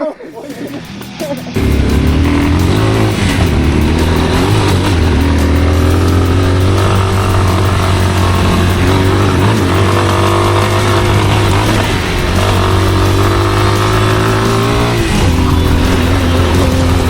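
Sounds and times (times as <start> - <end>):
off-road motorcycle engine running: 0.9 - 17.0.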